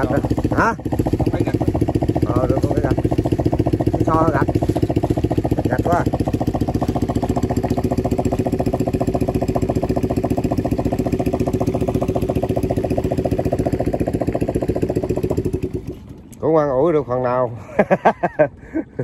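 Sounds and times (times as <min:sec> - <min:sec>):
small boat engine puttering: 0:00.0 - 0:19.0.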